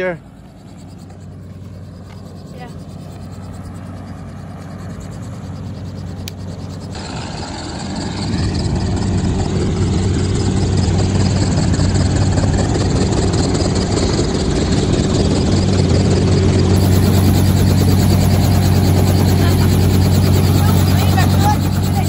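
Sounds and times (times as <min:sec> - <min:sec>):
helicopter engine idling: 0:00.0 - 0:22.0.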